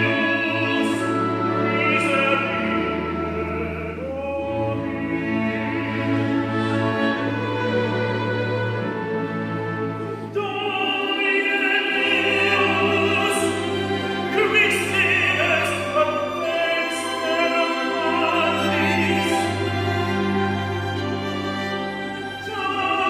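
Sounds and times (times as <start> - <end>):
classical solo voice singing: 0.0 - 23.0
string orchestra playing: 0.0 - 23.0.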